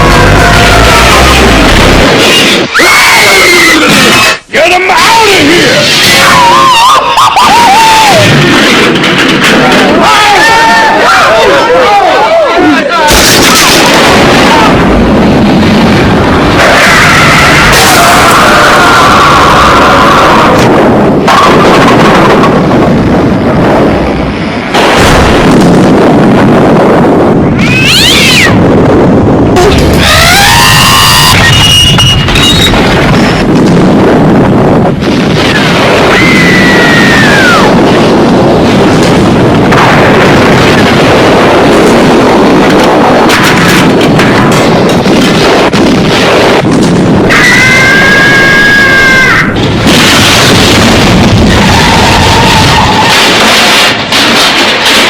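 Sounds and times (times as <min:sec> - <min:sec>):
distorted explosion-like crashing: 0:00.0 - 0:04.4, 0:07.4 - 0:11.4, 0:13.1 - 0:55.0.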